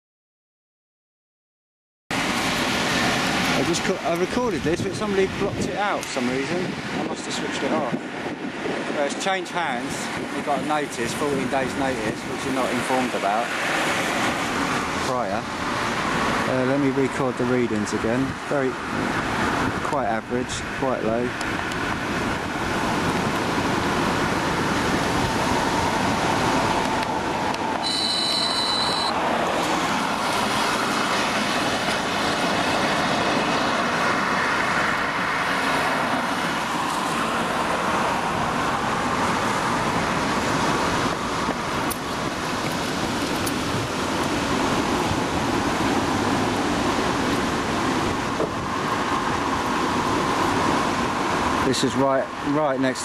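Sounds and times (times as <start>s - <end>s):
road traffic passing: 2.1s - 53.0s.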